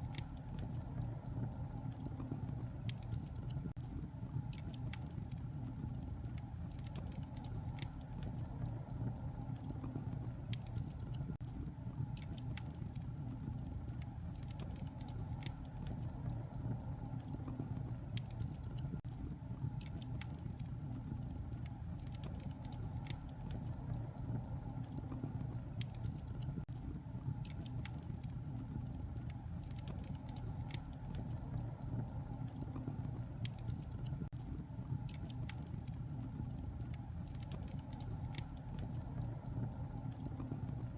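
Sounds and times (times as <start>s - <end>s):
fire crackling and snapping: 0.0s - 40.9s
fire flames rumbling: 0.0s - 40.9s.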